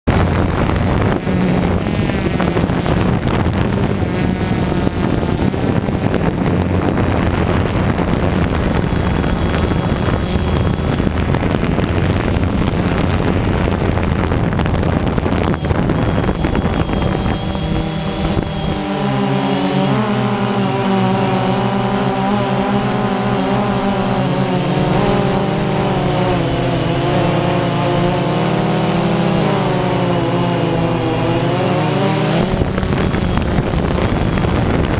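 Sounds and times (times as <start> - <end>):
drone propellers buzzing: 0.1 - 34.9
wind rumbling on microphone: 0.1 - 34.9.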